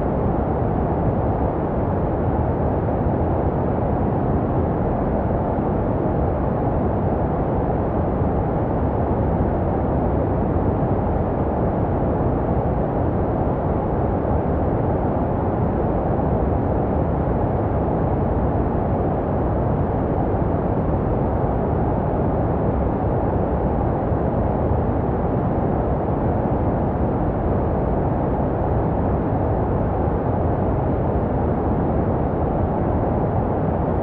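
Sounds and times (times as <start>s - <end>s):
deep rumbly white noise: 0.0s - 34.0s.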